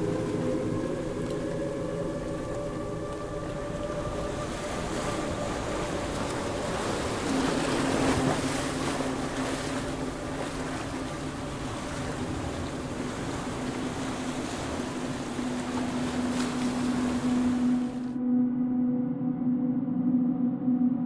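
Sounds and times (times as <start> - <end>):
ocean water surging over rocks: 0.0 - 18.1.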